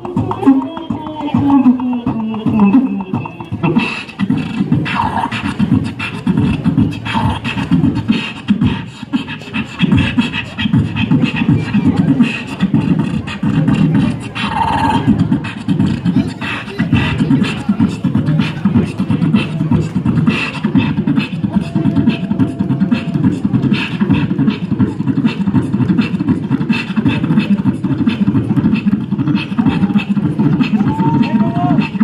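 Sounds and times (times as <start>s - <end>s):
amplified beatboxing: 0.0s - 32.0s.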